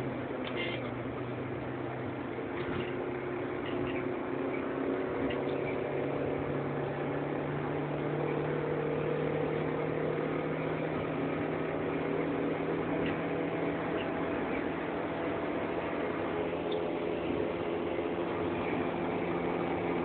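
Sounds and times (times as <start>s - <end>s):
car engine droning at high revs: 0.0s - 20.0s.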